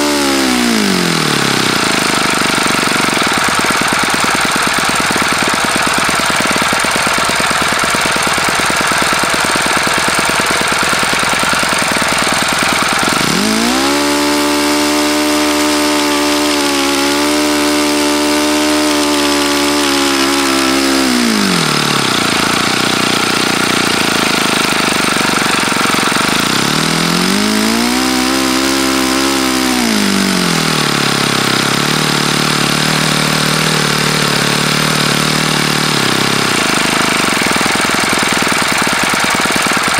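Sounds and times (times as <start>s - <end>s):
model aircraft engine running: 0.0s - 39.9s.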